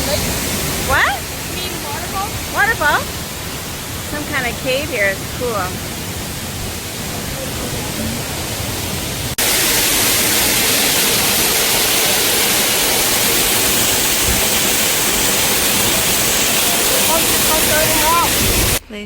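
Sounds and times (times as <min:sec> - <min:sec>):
waterfall roaring: 0:00.0 - 0:18.8.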